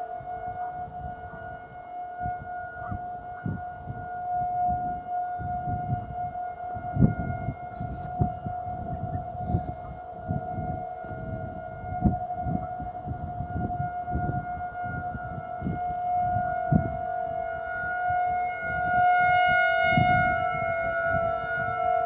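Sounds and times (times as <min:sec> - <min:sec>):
distant sirens lower tone: 0:00.0 - 0:22.0
warning siren steady tone: 0:00.0 - 0:22.0.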